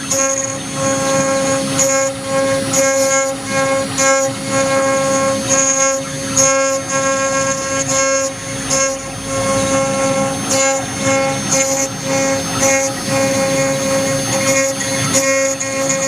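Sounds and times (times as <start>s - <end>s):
bit squealing cutting metal: 0.0s - 16.0s
router spindle whining: 0.0s - 16.0s.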